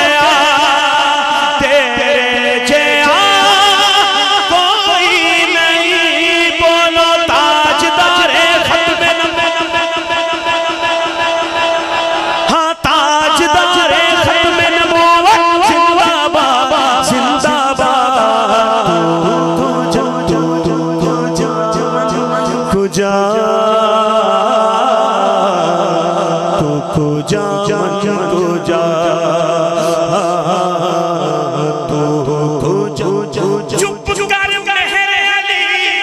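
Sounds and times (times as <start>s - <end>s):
man singing through pa system: 0.0s - 36.0s.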